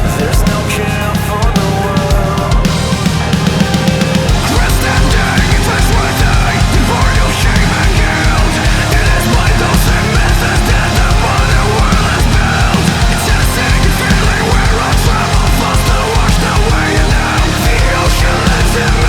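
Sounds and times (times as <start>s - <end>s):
heavy metal music: 0.0s - 19.0s.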